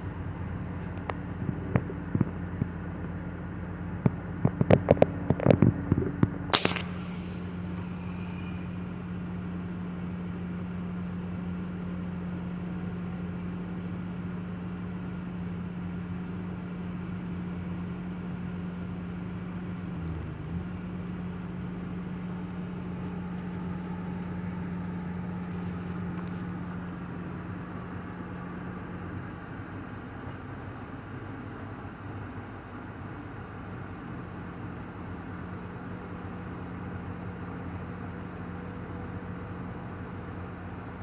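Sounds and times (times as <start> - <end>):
engine running at high speed: 0.0 - 41.0.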